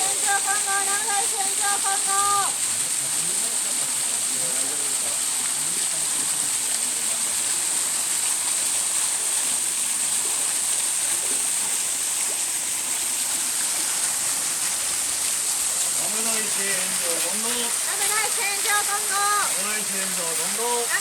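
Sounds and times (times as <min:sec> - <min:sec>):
waterfall pouring: 0:00.0 - 0:21.0.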